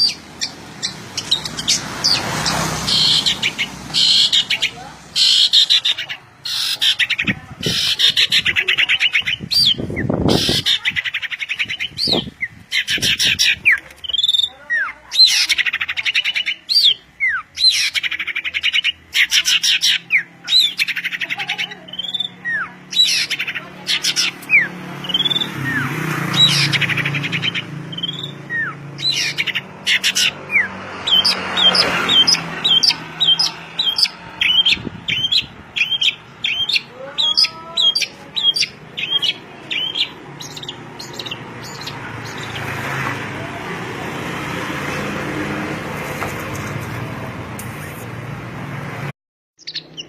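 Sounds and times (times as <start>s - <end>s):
songbird singing trills: 0.0s - 42.8s, 49.6s - 50.0s.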